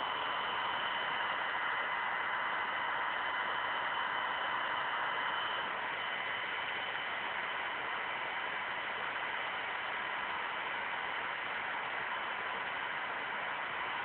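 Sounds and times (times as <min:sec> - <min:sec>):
laptop cooling fan whirring: 0:00.0 - 0:14.0.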